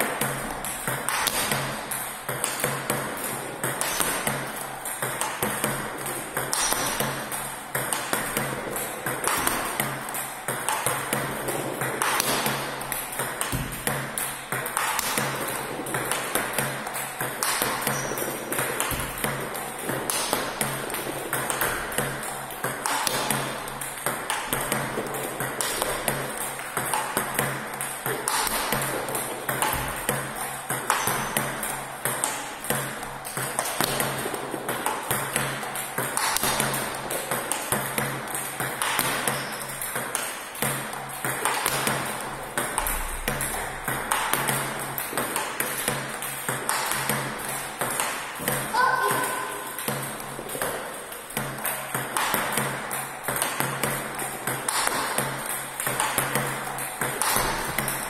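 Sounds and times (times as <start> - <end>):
ball bouncing on table: 0.0 - 58.0
table tennis ball clicking off bats: 0.0 - 58.0.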